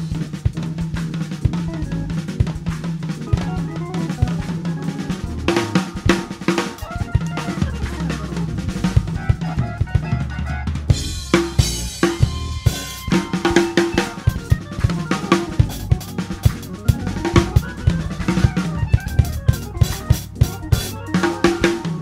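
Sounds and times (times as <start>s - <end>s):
drum kit solo: 0.0s - 22.0s
held organ chords: 0.0s - 22.0s.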